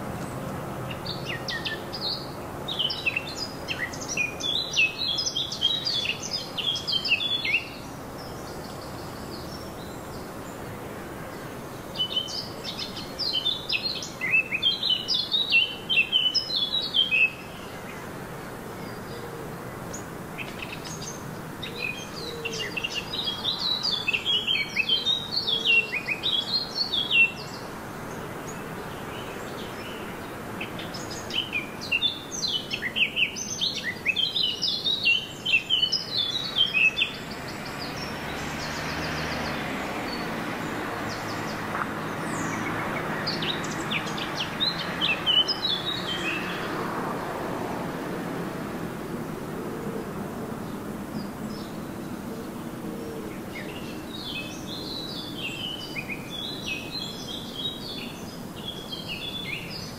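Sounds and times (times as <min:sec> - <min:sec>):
songbird chirping: 0:00.0 - 0:48.8, 0:50.0 - 0:59.9
faint background noise: 0:00.0 - 0:59.9.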